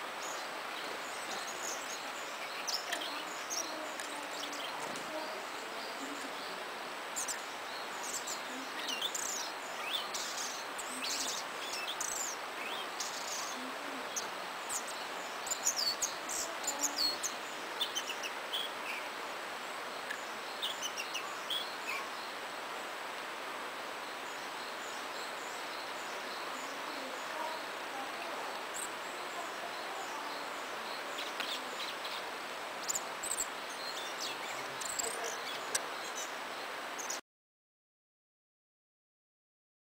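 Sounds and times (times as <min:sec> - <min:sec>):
small stream murmuring: 0:00.0 - 0:37.2.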